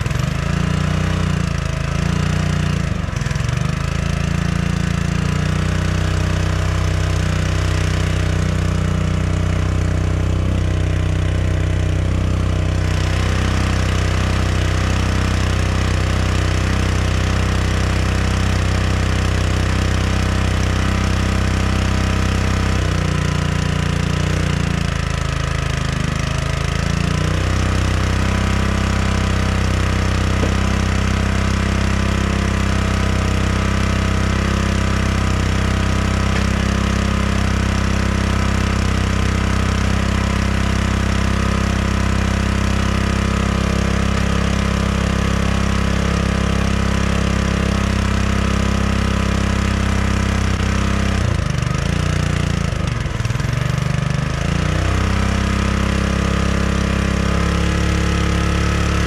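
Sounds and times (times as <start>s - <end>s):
small gas engine running: 0.0s - 59.0s.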